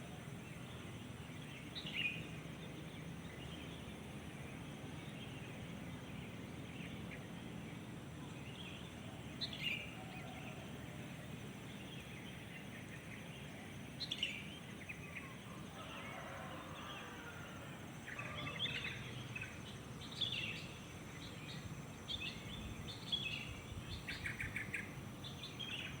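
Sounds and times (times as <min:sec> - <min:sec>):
songbirds chirping and calling: 0:00.0 - 0:26.0.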